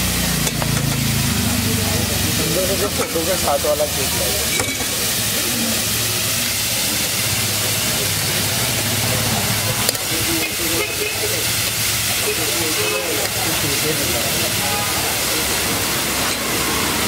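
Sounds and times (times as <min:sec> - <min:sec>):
griddle hissing and sizzling: 0:00.0 - 0:17.0.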